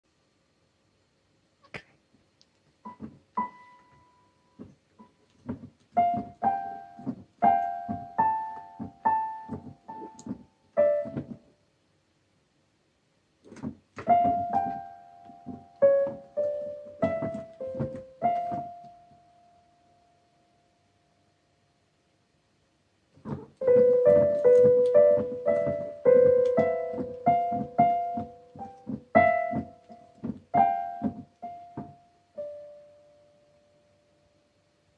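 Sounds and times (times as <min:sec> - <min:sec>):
slow piano melody on keyboard: 0:02.8 - 0:11.6, 0:14.0 - 0:21.6, 0:23.3 - 0:34.9.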